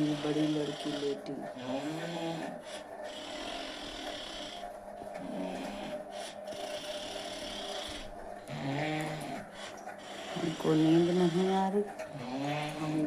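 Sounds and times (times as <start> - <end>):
person snoring: 0.0 - 4.6, 5.2 - 9.4, 10.1 - 13.0
steady low hum: 0.0 - 13.0.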